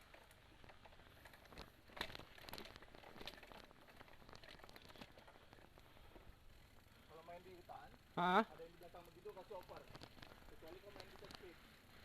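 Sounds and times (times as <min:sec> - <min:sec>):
faint crunching and clicking: 0:00.0 - 0:07.0, 0:08.6 - 0:12.0.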